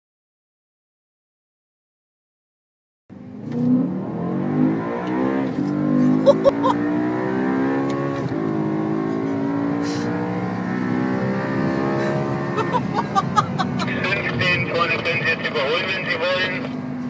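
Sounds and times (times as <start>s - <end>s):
car engine accelerating hard: 3.1s - 17.0s.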